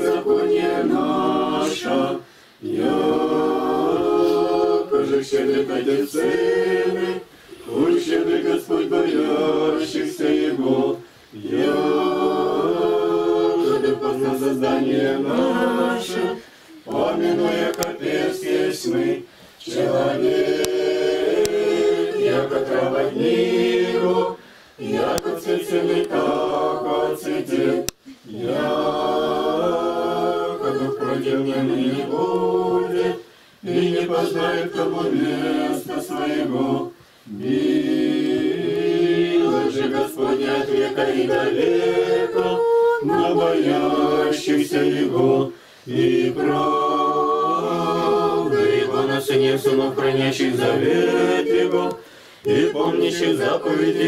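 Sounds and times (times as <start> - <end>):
congregation chanting a cappella: 0.0 - 54.0.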